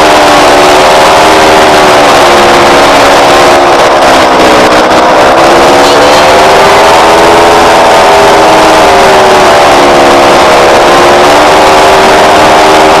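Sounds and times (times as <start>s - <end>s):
loud engine drone: 0.0s - 13.0s.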